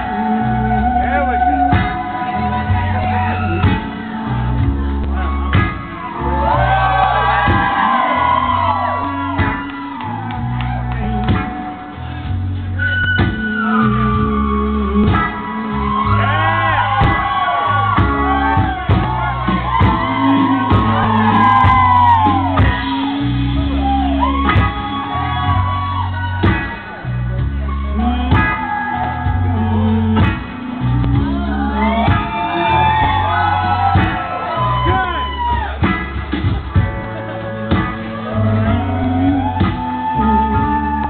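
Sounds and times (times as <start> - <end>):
audience shouting and whooping: 0.0 - 12.0, 12.8 - 41.0
loud music with heavy bass: 0.0 - 41.0.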